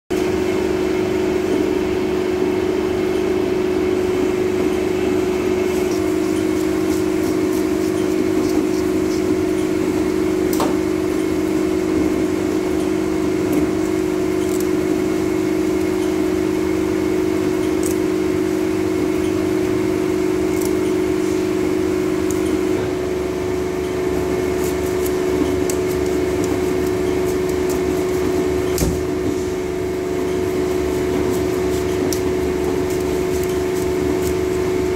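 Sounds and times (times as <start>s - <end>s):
steady machine hum: 0.1s - 34.9s.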